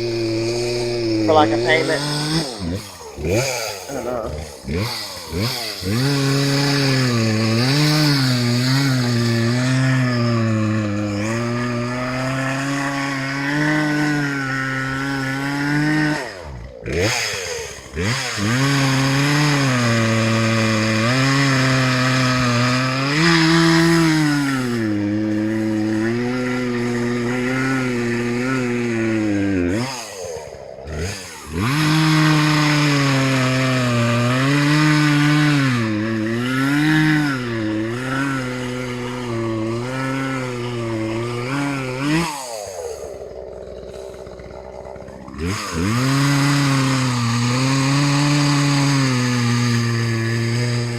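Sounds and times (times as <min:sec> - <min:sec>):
chainsaw cutting a tree: 0:00.0 - 0:50.9.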